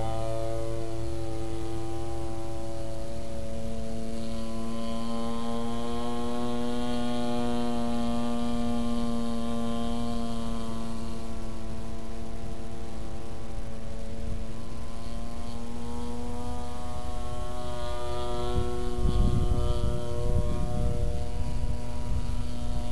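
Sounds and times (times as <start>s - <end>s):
model plane engine drone: 0.0s - 22.9s.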